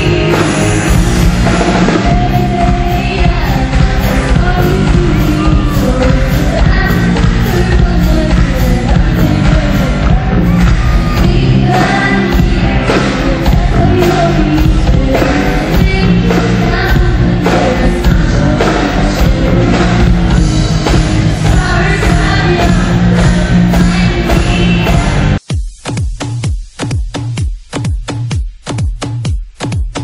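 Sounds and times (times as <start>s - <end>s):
girl singing: 0.0s - 1.3s, 1.9s - 25.1s
electric bass: 0.0s - 25.4s
live pop rock band: 0.0s - 25.4s
drums: 0.0s - 30.0s.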